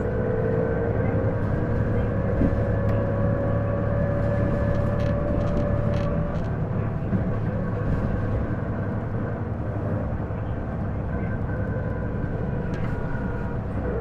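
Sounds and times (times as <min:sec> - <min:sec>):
bus engine and road drone: 0:00.0 - 0:14.0.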